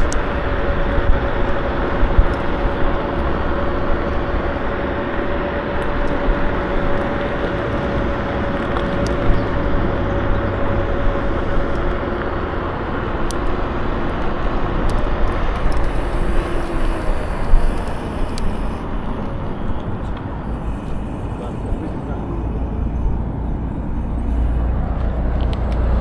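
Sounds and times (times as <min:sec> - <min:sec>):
thin motor whine: 0:00.0 - 0:26.0
wind and road noise: 0:00.0 - 0:26.0.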